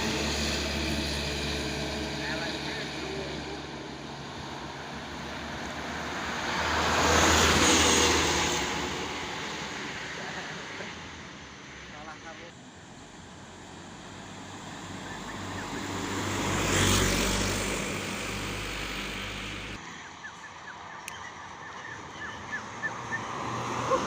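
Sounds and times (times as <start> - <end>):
truck passing by: 0.0 - 24.0.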